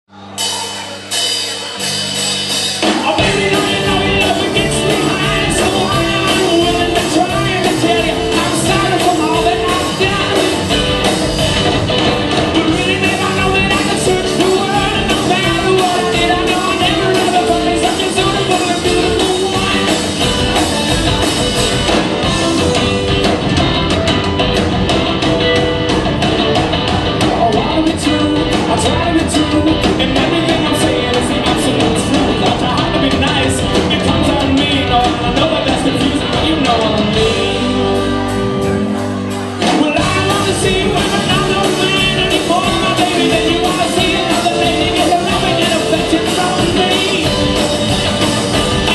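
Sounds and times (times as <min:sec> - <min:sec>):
bass guitar: 0:00.0 - 0:48.9
lead singer: 0:00.1 - 0:24.1, 0:25.4 - 0:48.9
drum kit: 0:00.1 - 0:48.9
electric guitars: 0:00.2 - 0:48.9.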